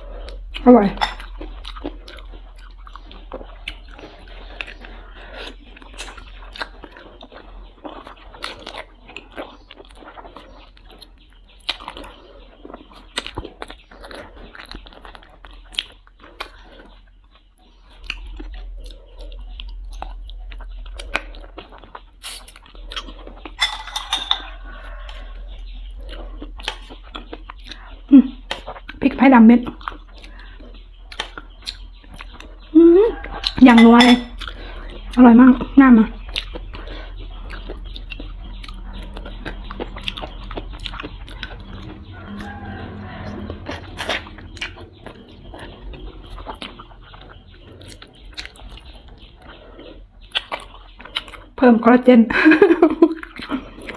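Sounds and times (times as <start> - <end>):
chewing and biting: 0.0 - 23.6, 24.4 - 33.6, 34.2 - 51.6, 53.1 - 53.9
mouth clicks and smacks: 0.2 - 23.6, 25.9 - 32.7, 34.3 - 42.1, 44.1 - 51.6, 53.1 - 53.9.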